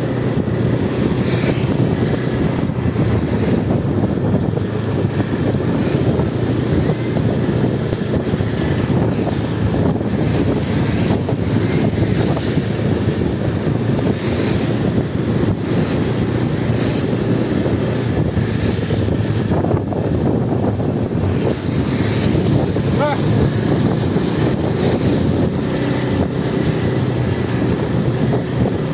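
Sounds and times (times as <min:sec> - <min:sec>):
motorbike engine drone: 0:00.0 - 0:28.9
road noise: 0:00.0 - 0:28.9.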